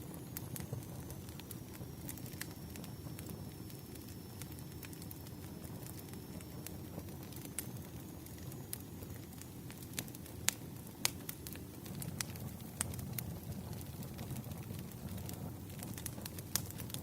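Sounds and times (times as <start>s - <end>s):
campfire flames rushing: 0.0s - 17.0s
wood crackling and popping: 0.0s - 17.0s.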